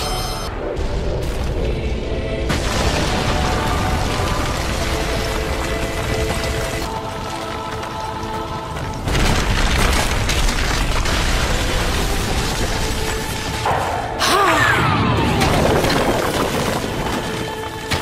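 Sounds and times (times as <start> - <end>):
rock rumbling and crashing: 2.5 - 14.2, 14.9 - 18.0.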